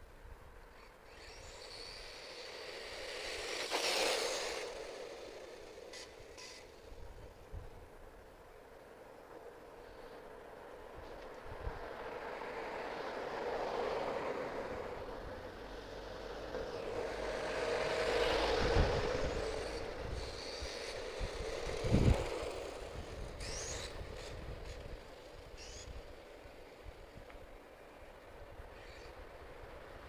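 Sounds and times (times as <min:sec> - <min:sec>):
electric toy truck motor and tyres: 0:00.6 - 0:30.0.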